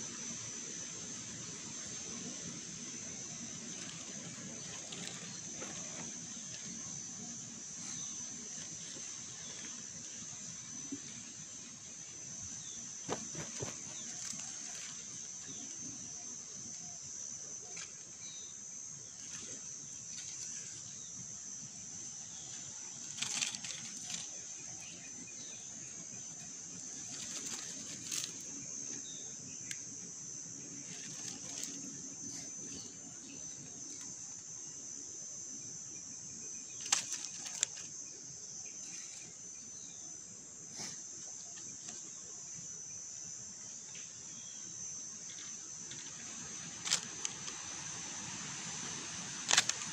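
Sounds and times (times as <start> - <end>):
insects chirring: 0.0 - 49.9.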